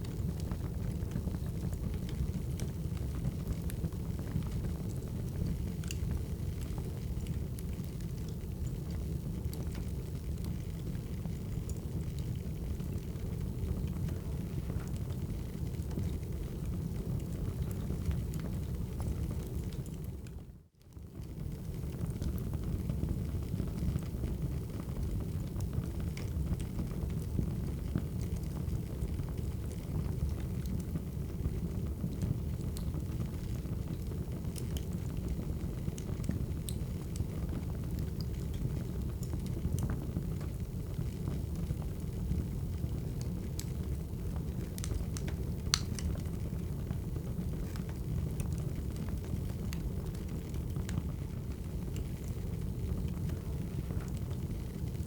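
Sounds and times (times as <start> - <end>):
fire low rumble: 0.0 - 55.0
wood fire pops and crackles: 0.0 - 55.0.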